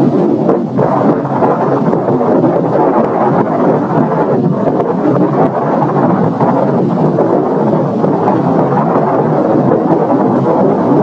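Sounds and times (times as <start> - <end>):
rumbling roar of explosion: 0.0 - 11.0.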